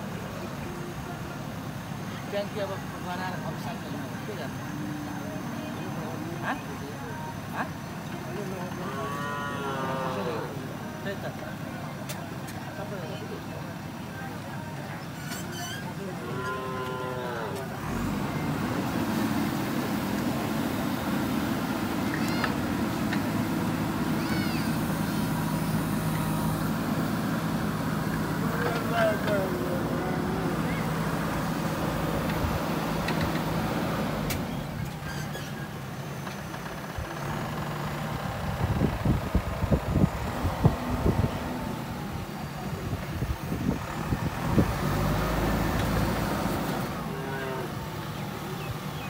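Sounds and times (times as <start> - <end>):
diesel engine under load: 0.0 - 49.0.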